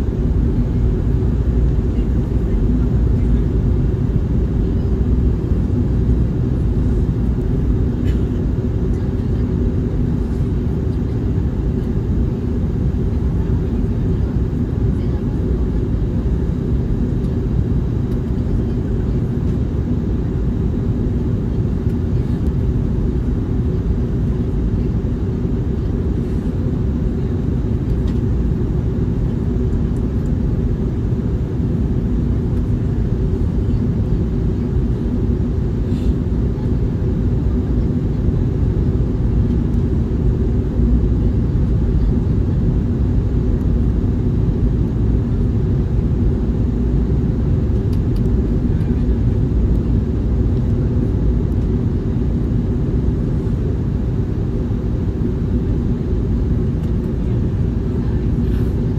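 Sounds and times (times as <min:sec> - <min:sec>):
airplane cabin engine rumble: 0:00.0 - 0:58.9.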